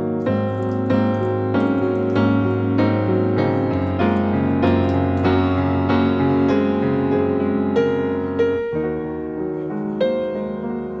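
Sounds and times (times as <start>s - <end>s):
gentle piano piece: 0.0s - 11.0s.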